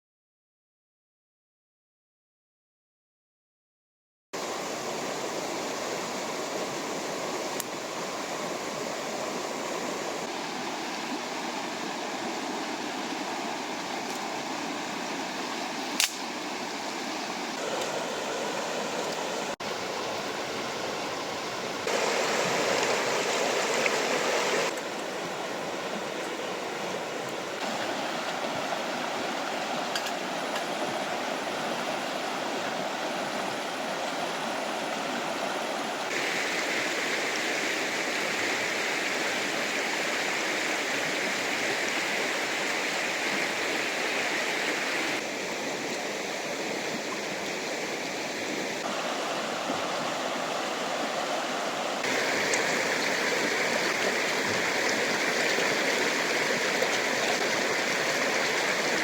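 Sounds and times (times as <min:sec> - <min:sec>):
river water rushing: 0:04.4 - 0:59.0.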